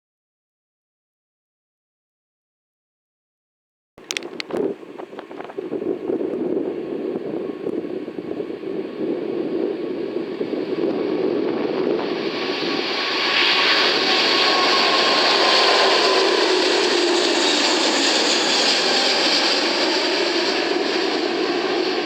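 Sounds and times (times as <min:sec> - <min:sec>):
jet engines rushing: 0:04.0 - 0:22.0
thin engine whine: 0:04.0 - 0:22.0.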